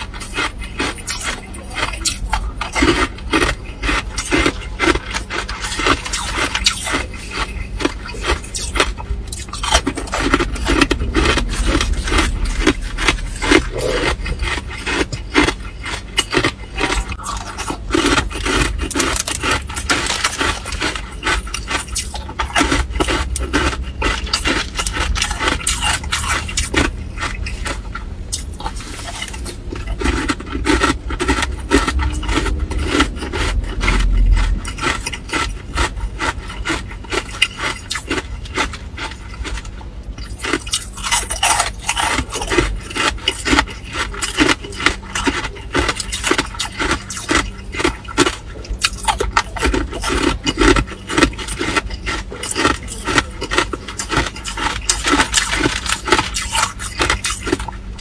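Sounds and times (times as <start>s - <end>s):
person crunching ice cubes: 0.0s - 58.0s.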